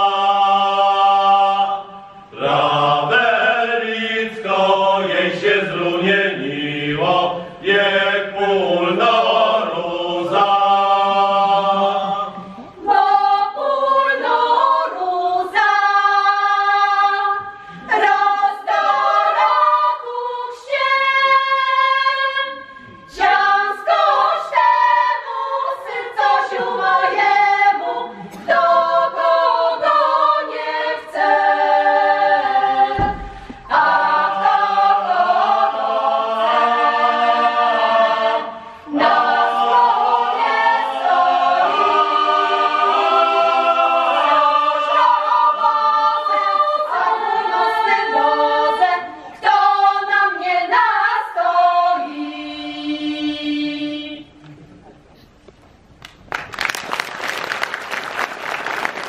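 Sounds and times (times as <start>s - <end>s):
folk choir singing unaccompanied: 0.0s - 54.6s.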